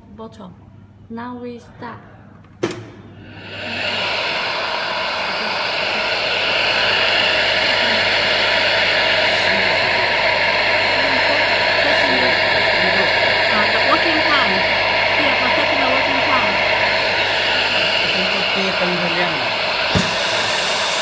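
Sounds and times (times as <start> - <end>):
air blast hissing with hum: 2.7 - 21.0.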